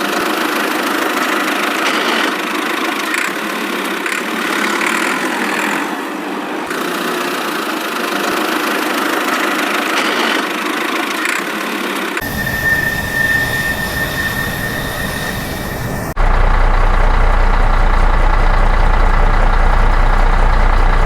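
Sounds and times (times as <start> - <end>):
toy vehicle engine hum: 0.0 - 21.0.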